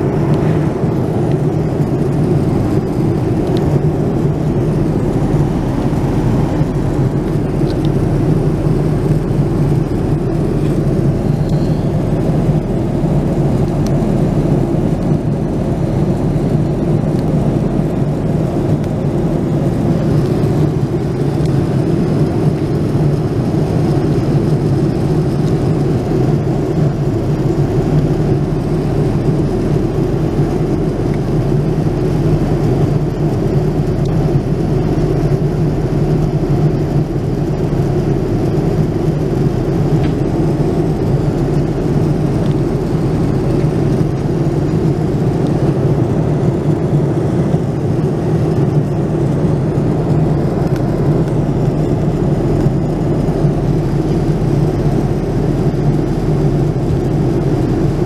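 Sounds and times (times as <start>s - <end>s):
airplane cabin hum: 0.0s - 58.0s.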